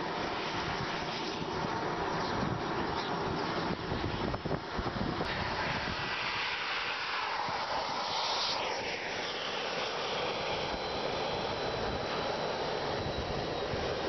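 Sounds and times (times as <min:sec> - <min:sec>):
jet turbine engine whine: 0:00.0 - 0:14.0.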